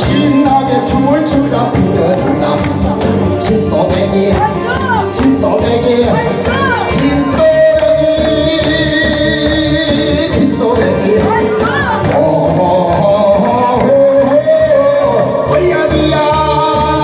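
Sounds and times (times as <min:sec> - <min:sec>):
amplified backing music with beat: 0:00.0 - 0:17.0
man singing into a microphone: 0:00.0 - 0:17.0.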